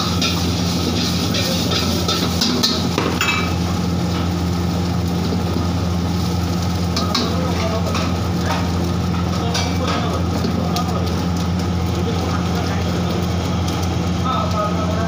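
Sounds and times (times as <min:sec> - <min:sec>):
rice sizzling in a wok: 0:00.0 - 0:15.0.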